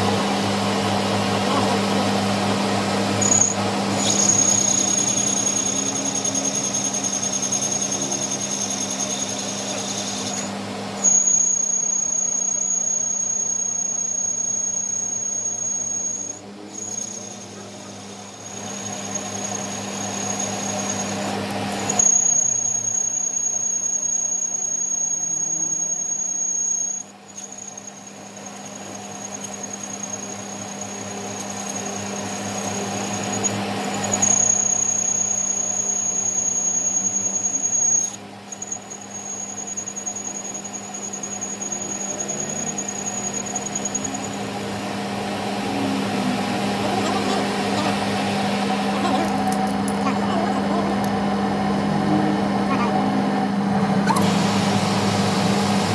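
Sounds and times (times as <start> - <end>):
motor hum: 0.0 - 55.9
high-pitched squeal of tool on metal: 3.2 - 44.9, 45.6 - 51.2, 52.7 - 53.1.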